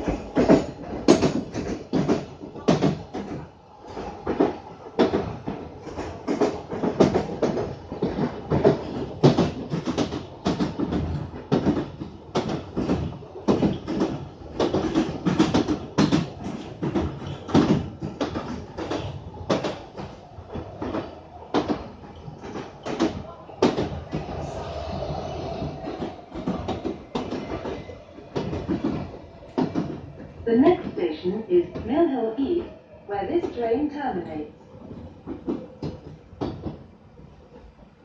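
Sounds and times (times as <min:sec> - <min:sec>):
sharp knocks and clatters: 0:00.0 - 0:31.0, 0:34.8 - 0:36.9
train rumbling on track: 0:00.0 - 0:38.0.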